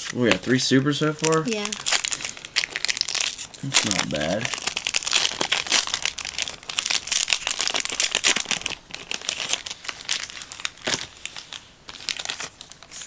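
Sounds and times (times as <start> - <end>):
foil wrappers crinkling: 0.0 - 13.0.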